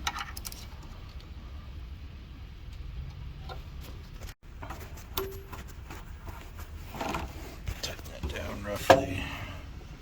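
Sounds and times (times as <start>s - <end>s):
steady low hum: 0.2s - 10.0s.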